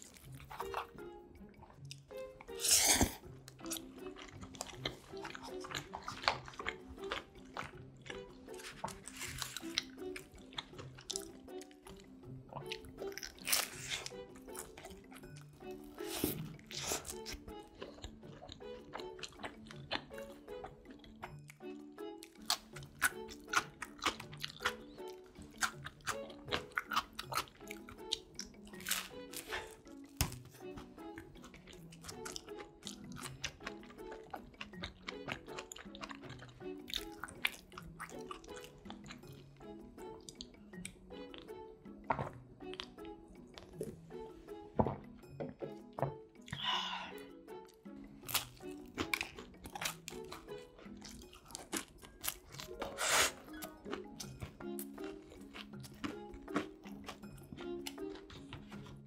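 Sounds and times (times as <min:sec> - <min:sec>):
chewing mouth sounds: 0:00.0 - 0:01.0, 0:01.6 - 0:44.1, 0:46.4 - 0:59.0
soft background music: 0:00.0 - 0:59.0.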